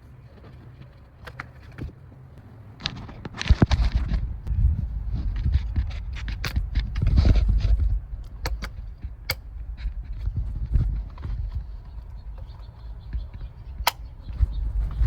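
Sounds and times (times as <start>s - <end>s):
steady low rumble: 2.1s - 15.0s
sharp clicks and knocks: 2.8s - 15.0s.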